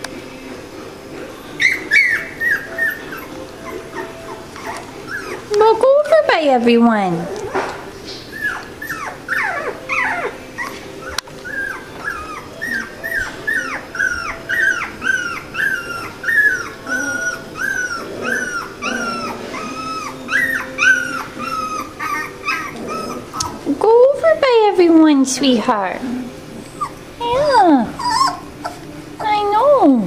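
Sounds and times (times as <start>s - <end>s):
puppies whimpering: 1.2s - 30.0s.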